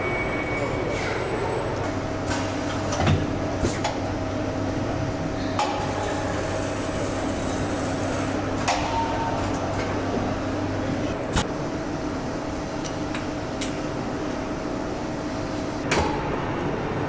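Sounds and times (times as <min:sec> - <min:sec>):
machinery electric hum: 0:00.0 - 0:17.0.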